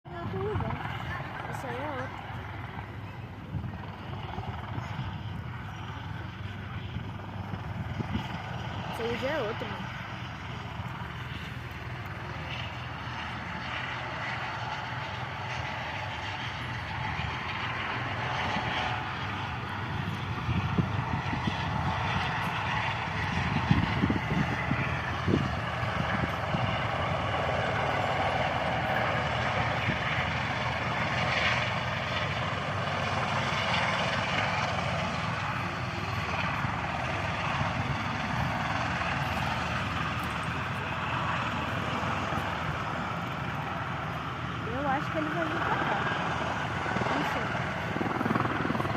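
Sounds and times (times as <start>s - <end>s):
aircraft engine drone: 0.0s - 48.9s.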